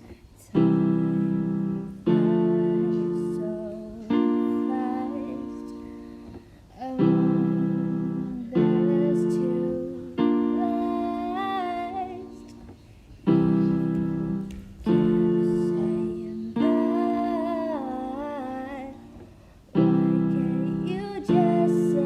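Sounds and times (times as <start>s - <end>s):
piano chords ringing: 0.0s - 22.0s
woman singing held notes: 0.0s - 22.0s.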